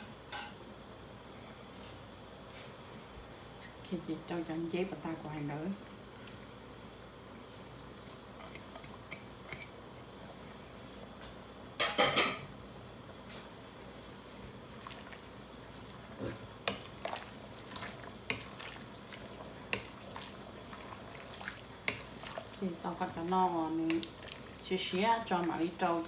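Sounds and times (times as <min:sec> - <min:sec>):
broth simmering with faint hiss: 0:00.0 - 0:26.0.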